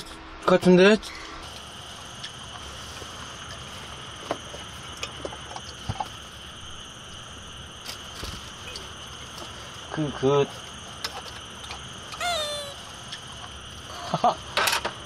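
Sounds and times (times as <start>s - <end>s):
insect chorus chirring: 1.1s - 15.0s.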